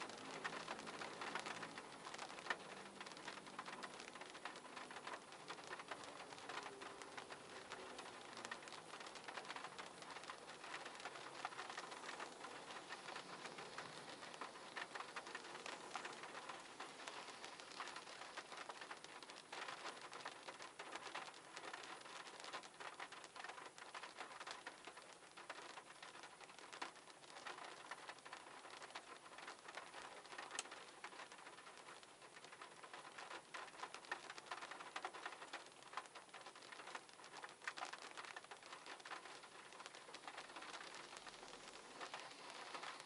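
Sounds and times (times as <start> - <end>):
faint steady pattering: 0.0 - 43.0.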